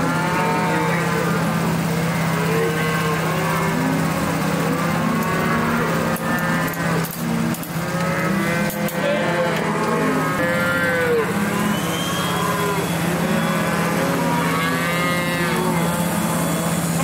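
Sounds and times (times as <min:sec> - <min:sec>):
calves bawling: 0:00.0 - 0:17.0
steady low hum: 0:00.0 - 0:17.0.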